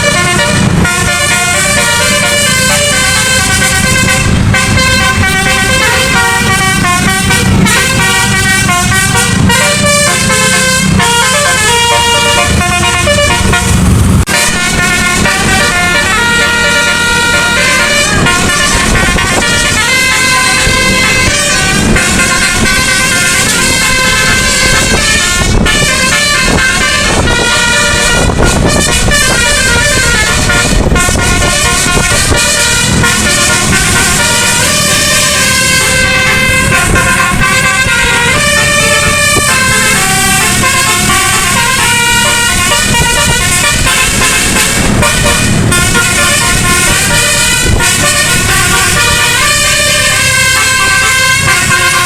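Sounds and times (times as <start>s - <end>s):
musical air horn playing tunes: 0.0s - 52.0s.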